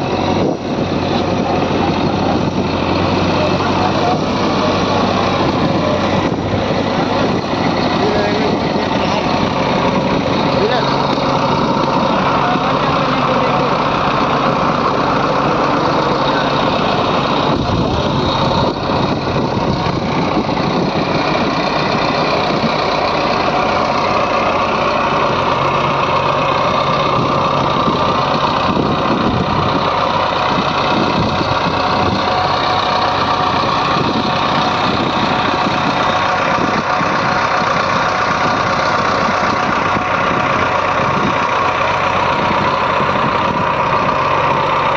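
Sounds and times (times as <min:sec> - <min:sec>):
diesel engines running: 0:00.0 - 0:44.9.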